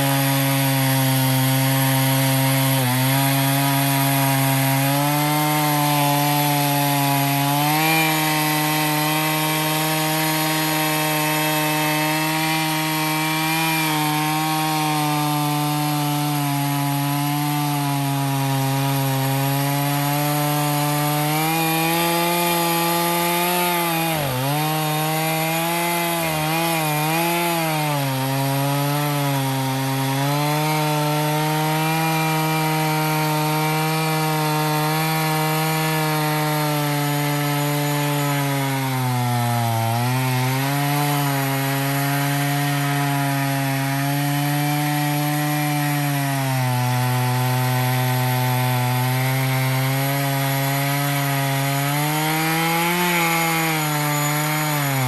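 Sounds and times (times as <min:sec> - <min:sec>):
chainsaw cutting log at full throttle: 0:00.0 - 0:55.0.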